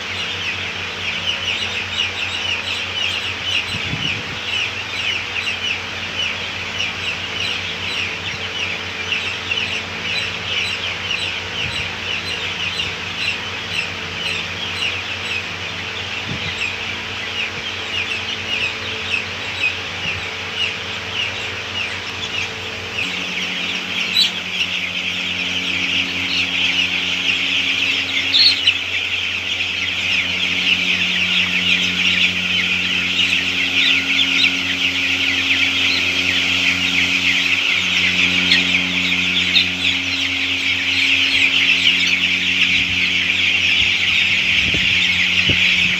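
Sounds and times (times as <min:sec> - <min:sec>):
chickens cheeping: 0:00.0 - 0:45.9
steady low hum: 0:00.0 - 0:45.9.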